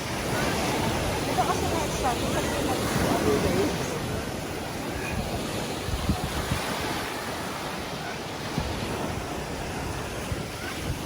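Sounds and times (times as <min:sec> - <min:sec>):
sea surf washing on beach: 0:00.0 - 0:11.0
wind buffeting microphone: 0:00.0 - 0:11.0.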